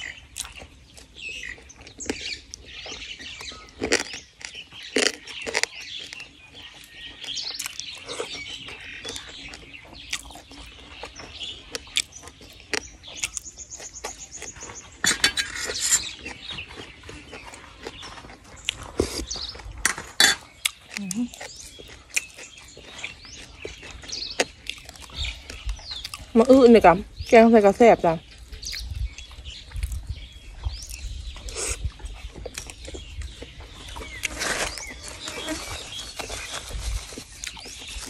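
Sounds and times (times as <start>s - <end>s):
person chewing food: 0.0s - 26.4s, 28.3s - 38.0s
birds chirping: 0.0s - 38.0s.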